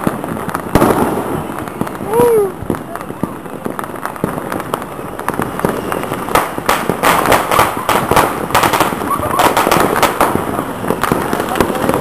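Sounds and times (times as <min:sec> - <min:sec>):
firecrackers crackling: 0:00.0 - 0:12.0
fireworks bangs and pops: 0:00.0 - 0:12.0.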